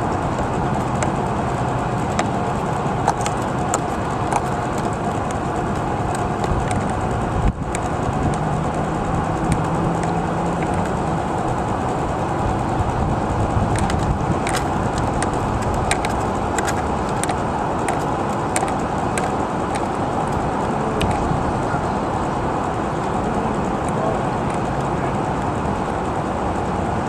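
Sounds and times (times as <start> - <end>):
sharp ticks: 0.0 - 26.3
model boats humming: 0.0 - 27.0.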